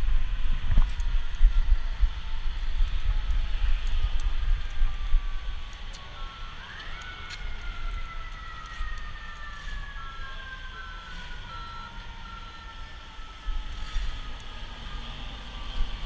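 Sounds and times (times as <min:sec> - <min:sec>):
emergency vehicle siren: 0:00.0 - 0:16.0
low street rumble: 0:00.0 - 0:16.0.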